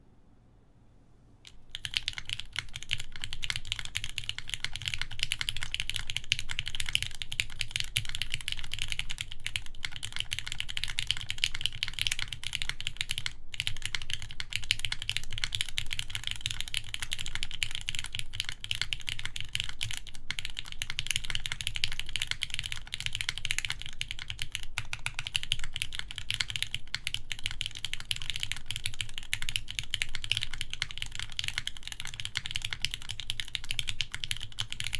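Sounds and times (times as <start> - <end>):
mechanical keyboard typing: 1.5 - 34.9.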